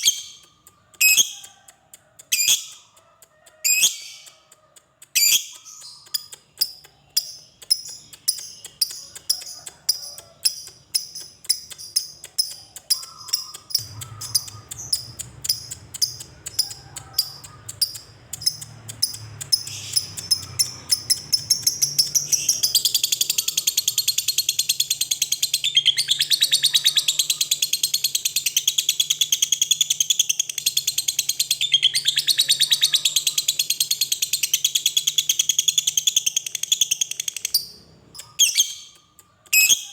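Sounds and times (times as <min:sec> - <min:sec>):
lovebird chirping and trilling: 0:00.0 - 0:01.6, 0:02.3 - 0:03.0, 0:03.6 - 0:04.5, 0:05.1 - 0:39.9.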